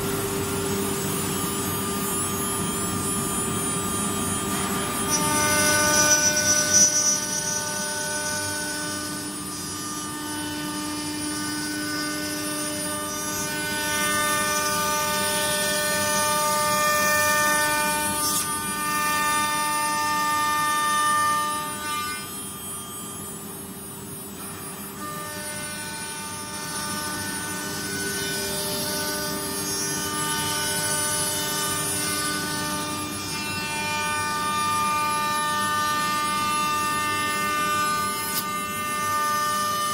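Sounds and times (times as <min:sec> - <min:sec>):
router cutting wood: 0:00.0 - 0:22.8, 0:24.3 - 0:39.9
cnc router spindle whine: 0:00.0 - 0:39.9.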